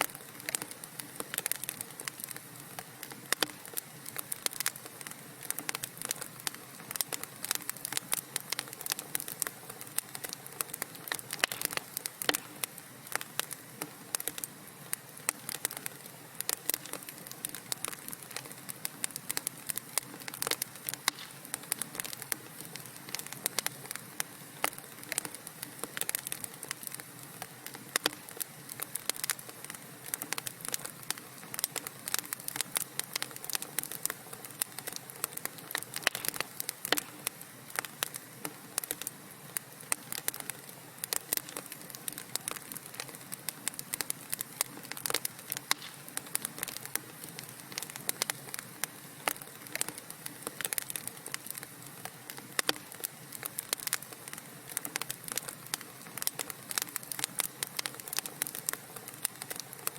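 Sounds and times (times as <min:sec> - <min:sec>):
soft hiss: 0:00.0 - 0:59.9
wood fire crackling and popping: 0:00.0 - 0:59.9.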